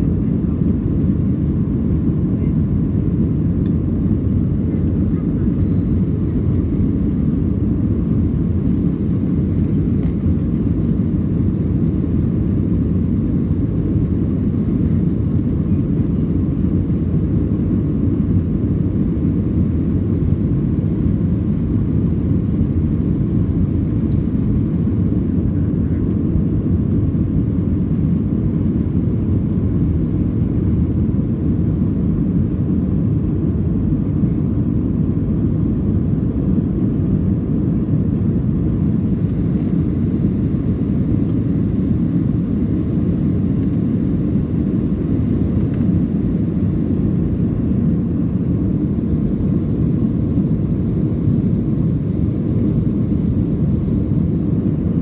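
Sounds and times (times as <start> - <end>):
airplane cabin engine roar: 0.0 - 55.0.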